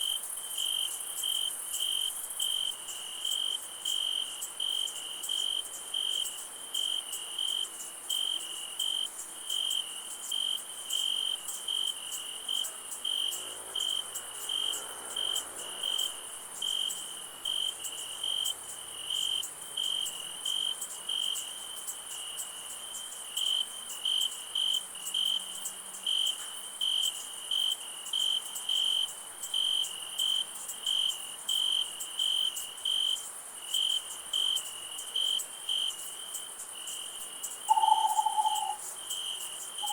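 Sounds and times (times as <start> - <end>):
cricket chirping: 0.0 - 39.9
insects trilling: 0.0 - 39.9.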